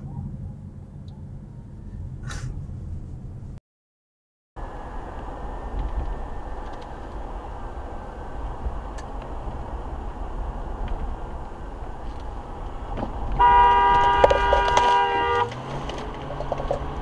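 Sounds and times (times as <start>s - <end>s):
car driving rumble inside cabin: 0.0s - 3.6s, 4.6s - 17.0s.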